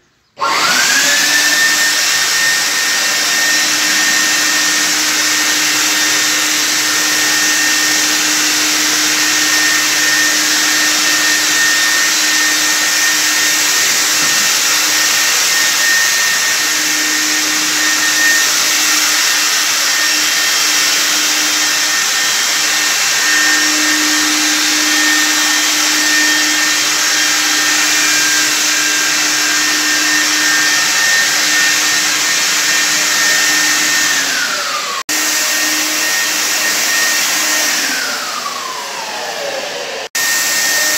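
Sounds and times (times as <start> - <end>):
fogger blower motor whining: 0.4 - 40.9.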